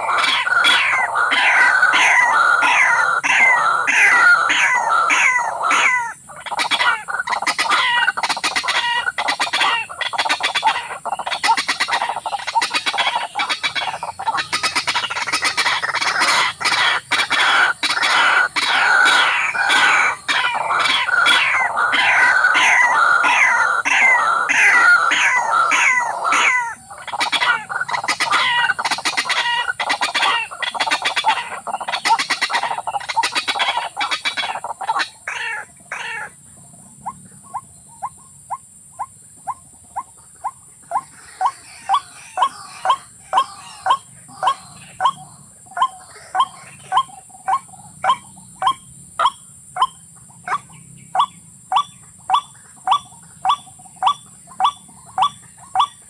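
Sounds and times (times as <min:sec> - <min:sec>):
bird calling: 0:00.0 - 0:36.4, 0:37.0 - 0:56.0.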